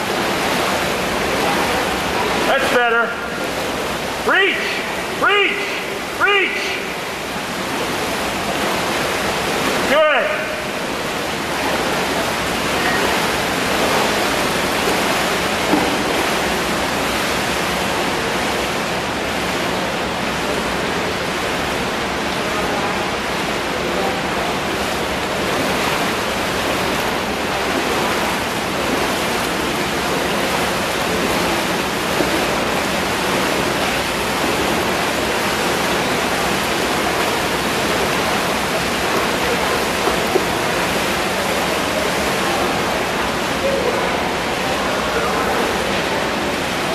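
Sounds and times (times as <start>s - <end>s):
rushing water in pool hall: 0.0s - 46.9s.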